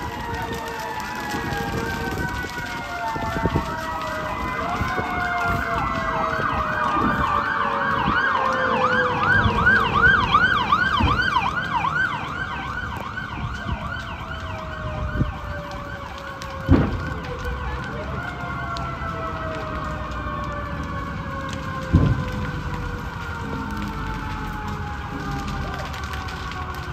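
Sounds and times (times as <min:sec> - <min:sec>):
siren on yelp driving past: 0:00.0 - 0:26.9.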